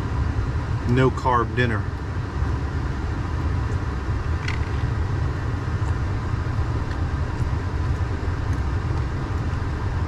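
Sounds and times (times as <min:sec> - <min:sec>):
truck engine rumble: 0:00.0 - 0:10.0.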